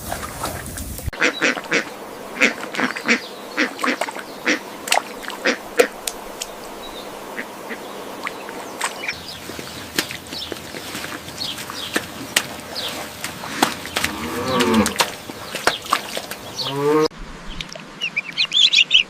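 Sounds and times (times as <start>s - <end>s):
ducks quacking: 1.2s - 17.1s.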